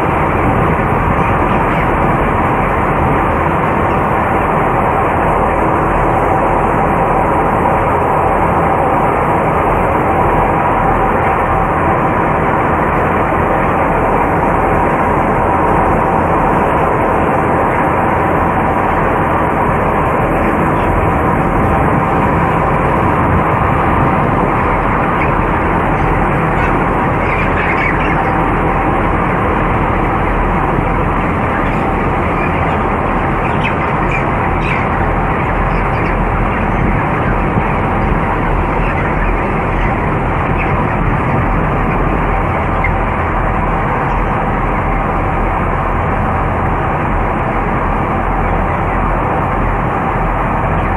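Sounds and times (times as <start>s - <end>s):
exhaust fans droning: 0.0s - 50.9s.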